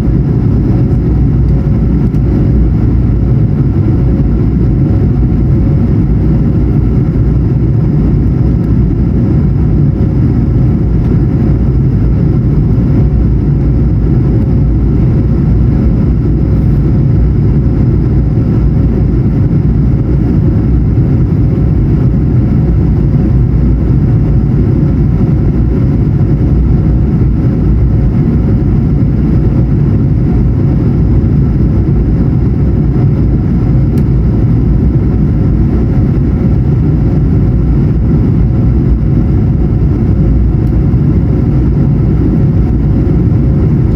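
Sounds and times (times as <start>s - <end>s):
aircraft cabin rumble: 0.0s - 43.9s
thin steady hum: 0.0s - 43.9s.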